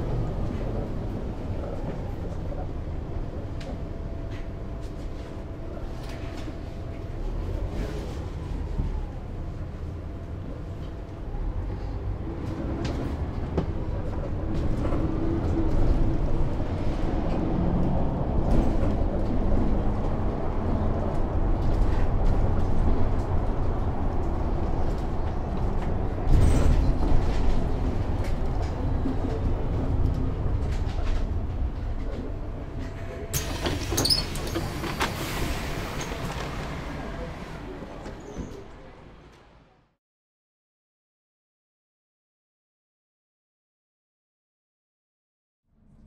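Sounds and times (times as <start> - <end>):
bus engine rumble: 0.0 - 40.0.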